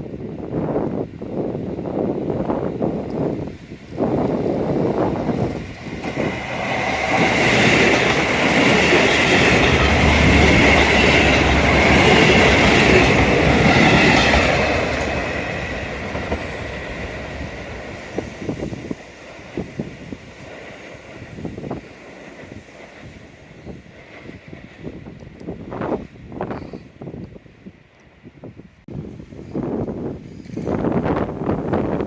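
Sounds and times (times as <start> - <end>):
train passing: 0.1 - 32.0.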